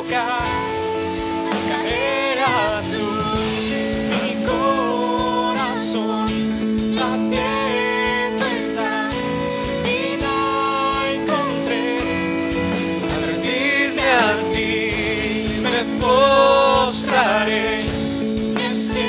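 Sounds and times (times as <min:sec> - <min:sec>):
guitars and bass chords: 0:00.0 - 0:19.0
person singing: 0:00.0 - 0:19.0.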